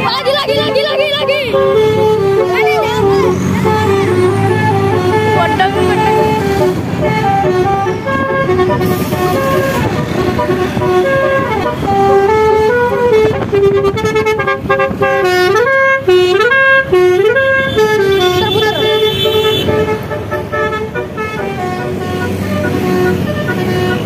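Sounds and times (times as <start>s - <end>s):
motorbike engines: 0.0s - 24.0s
multi-tone horn melody: 0.0s - 24.0s
traffic rumble: 0.0s - 24.0s.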